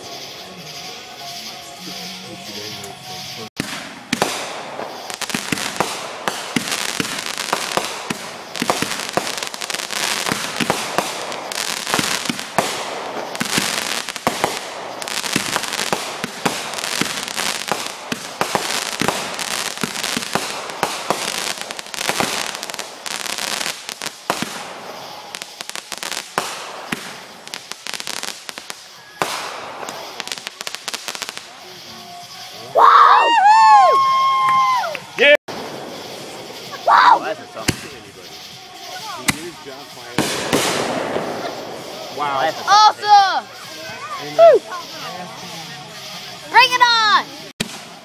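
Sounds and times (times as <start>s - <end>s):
fireworks crackling pops: 2.1s - 48.0s.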